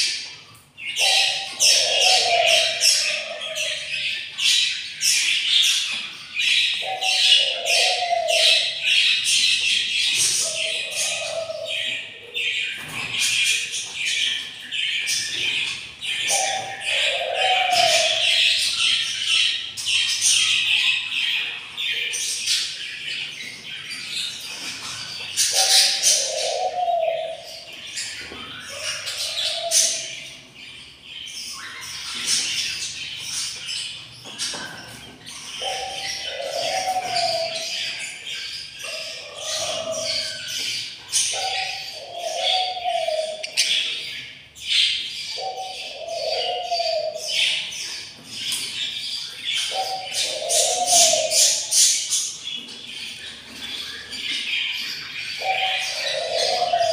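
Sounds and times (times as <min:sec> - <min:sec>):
budgerigar chicks chirping: 0:00.0 - 0:56.9.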